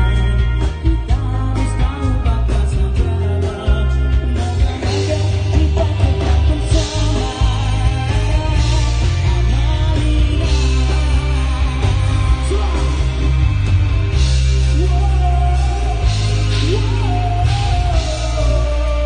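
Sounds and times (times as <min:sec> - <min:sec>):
live rock band playing: 0:00.0 - 0:19.0
person singing: 0:00.0 - 0:19.0.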